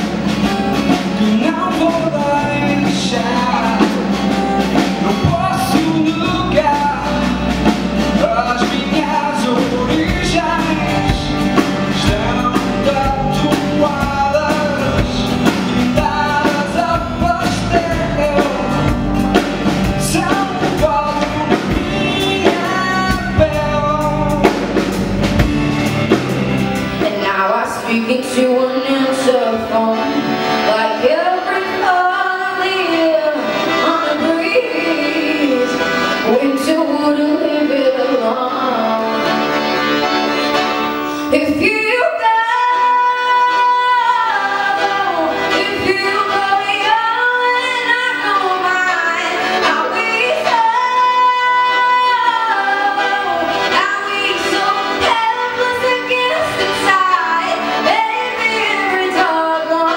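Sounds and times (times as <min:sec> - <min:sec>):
woman singing: 0:00.0 - 0:24.8, 0:27.0 - 0:39.5, 0:41.3 - 0:59.9
accordion: 0:00.0 - 0:59.9
acoustic guitar: 0:00.0 - 0:59.9.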